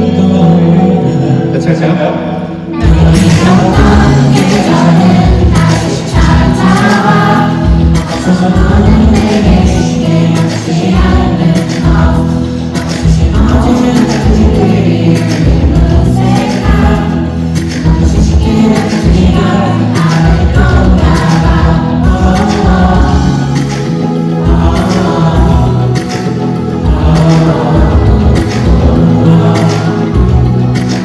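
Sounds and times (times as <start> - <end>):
live pop music with singing: 0.0 - 31.0.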